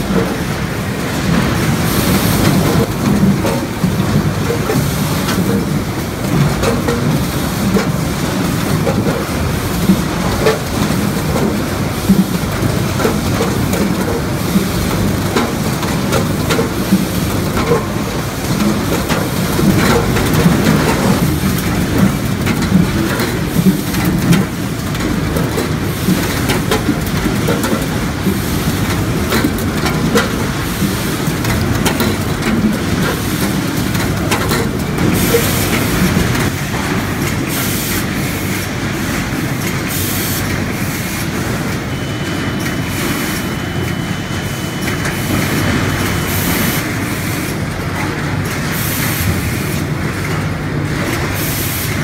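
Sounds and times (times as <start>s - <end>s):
machine clatter and rumble: 0.0s - 52.0s.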